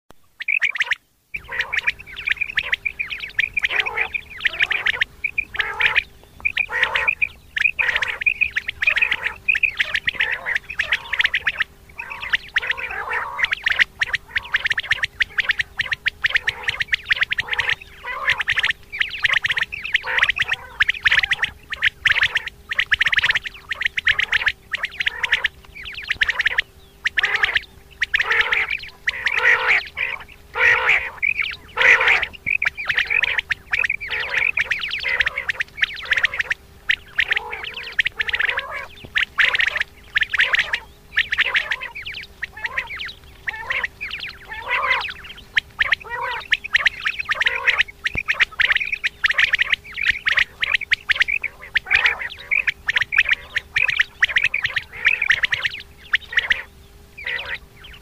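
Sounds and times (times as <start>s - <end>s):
quail calling: 0.2s - 58.0s.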